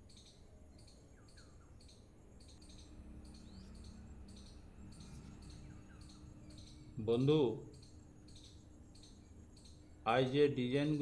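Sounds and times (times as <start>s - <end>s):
faint low hum: 0.0s - 11.0s
small birds chirping: 0.0s - 11.0s.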